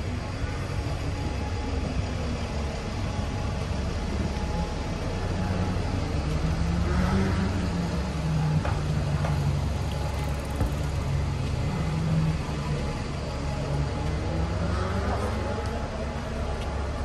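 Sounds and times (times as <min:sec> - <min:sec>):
bus diesel engine idling: 0:00.0 - 0:17.0
street traffic: 0:00.0 - 0:17.0.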